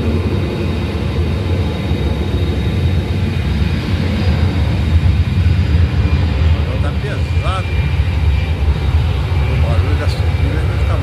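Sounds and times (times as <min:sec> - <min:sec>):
high engine whine: 0:00.0 - 0:11.0
jet engines rumbling: 0:00.0 - 0:11.0.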